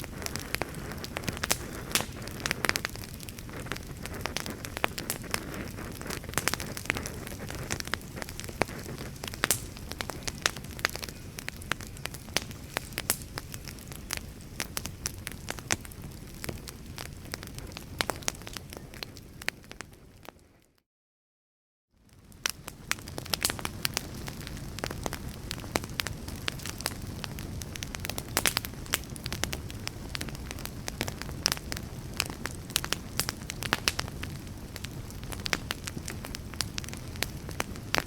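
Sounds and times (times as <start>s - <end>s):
firewood popping and snapping: 0.0s - 19.4s, 22.4s - 38.0s
wood fire crackling: 0.0s - 20.7s, 22.1s - 38.0s.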